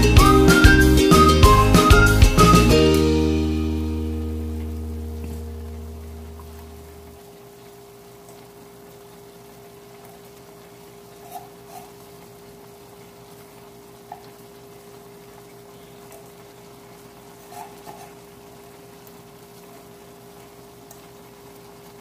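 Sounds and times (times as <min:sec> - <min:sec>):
food simmering in a wok: 0:03.3 - 0:22.0
steady kitchen hum: 0:04.0 - 0:22.0.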